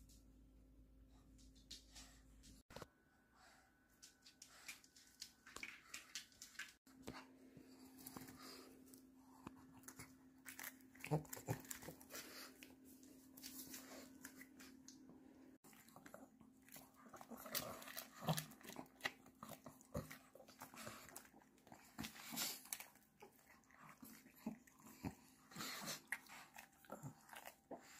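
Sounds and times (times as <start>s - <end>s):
dogs crunching and chewing fish: 4.1s - 27.9s.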